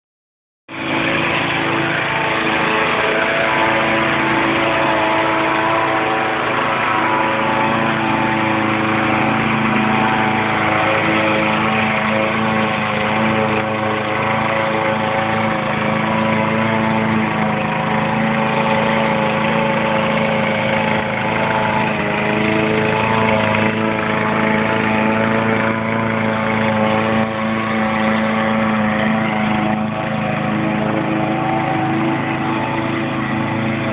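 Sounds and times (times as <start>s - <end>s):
lawn mower engine running: 0.7s - 33.9s.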